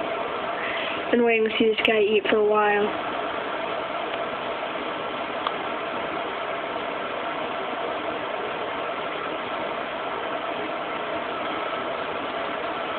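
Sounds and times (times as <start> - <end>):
mechanical hum with hiss: 0.0 - 12.9.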